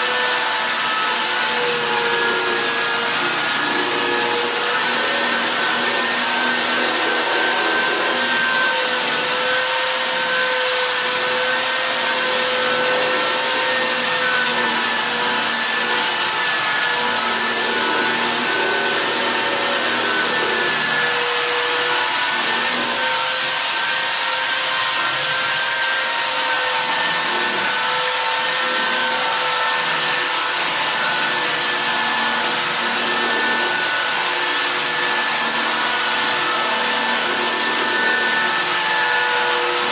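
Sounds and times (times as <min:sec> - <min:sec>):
electric sander on wood: 0:00.0 - 0:39.9.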